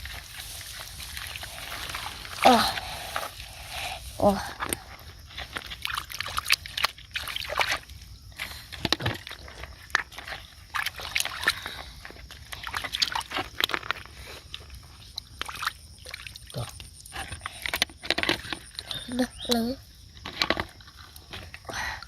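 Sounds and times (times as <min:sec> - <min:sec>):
splashing in shallow water: 0:00.0 - 0:19.2.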